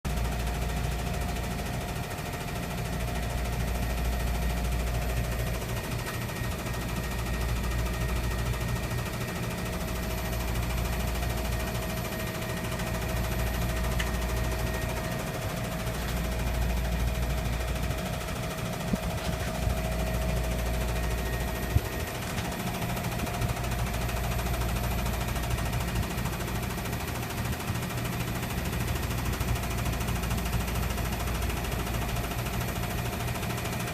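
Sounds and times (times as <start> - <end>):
air conditioner unit hum and whine: 0.1 - 33.9.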